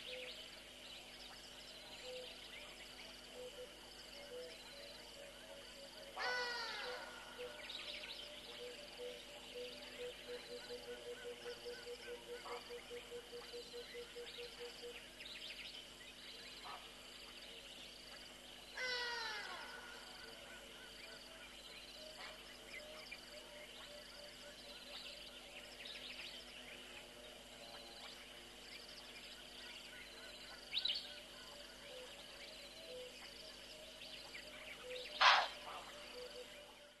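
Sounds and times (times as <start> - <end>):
bird chorus chirps and trills: 0.0 - 37.0.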